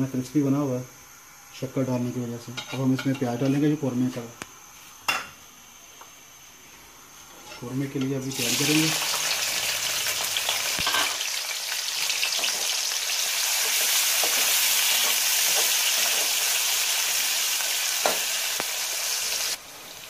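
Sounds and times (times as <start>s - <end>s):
onions sizzling in a pot: 2.4s - 20.0s.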